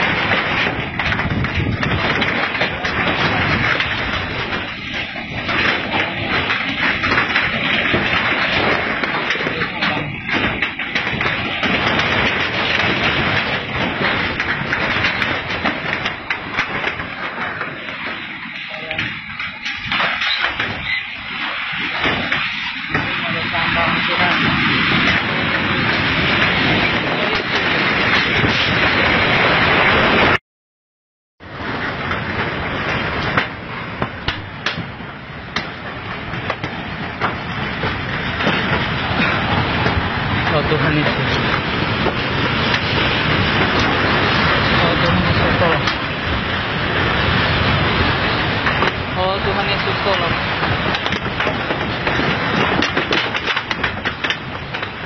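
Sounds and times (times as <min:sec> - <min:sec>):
roaring rushing water: 0:00.0 - 0:30.4, 0:31.4 - 0:55.0
sharp cracks and knocks: 0:00.0 - 0:30.4, 0:31.5 - 0:55.0.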